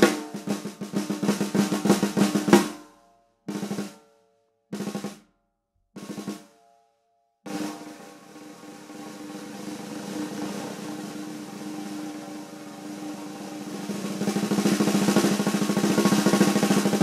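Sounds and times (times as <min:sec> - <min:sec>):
snare drum rolls: 0:00.0 - 0:02.8, 0:03.5 - 0:04.0, 0:04.8 - 0:05.2, 0:06.0 - 0:06.5, 0:07.5 - 0:17.0.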